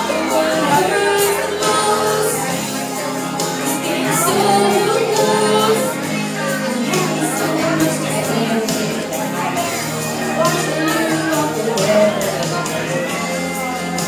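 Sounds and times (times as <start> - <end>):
girl singing karaoke: 0.0 - 14.0
recorded backing track: 0.0 - 14.0.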